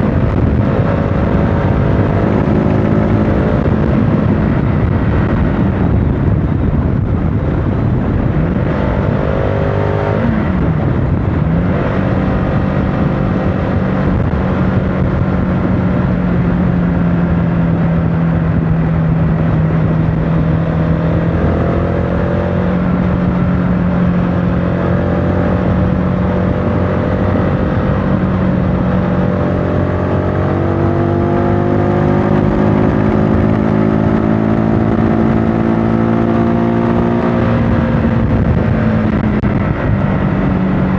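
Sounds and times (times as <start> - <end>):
motorcycle engine running: 0.0 - 40.9
riding wind noise: 0.0 - 40.9.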